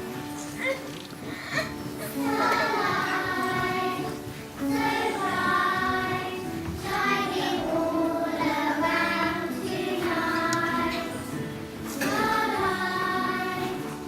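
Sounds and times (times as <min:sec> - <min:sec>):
music: 0:00.0 - 0:14.0
children singing: 0:01.5 - 0:14.0.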